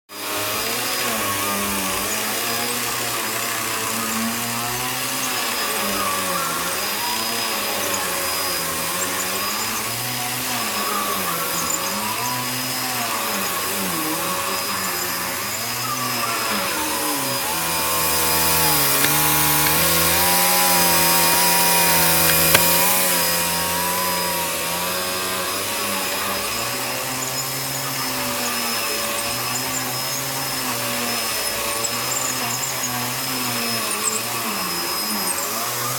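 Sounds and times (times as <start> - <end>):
vacuum cleaner running over a rug: 0.1 - 35.9.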